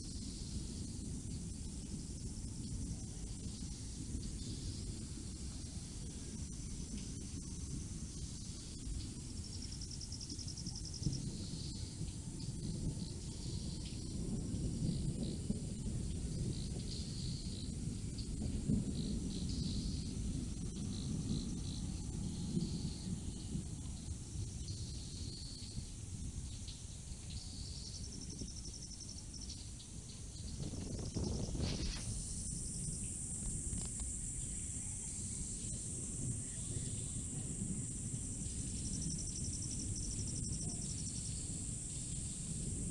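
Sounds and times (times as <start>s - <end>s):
insects chirping in trills: 0.0s - 42.9s
low uneven storm rumble: 0.0s - 42.9s.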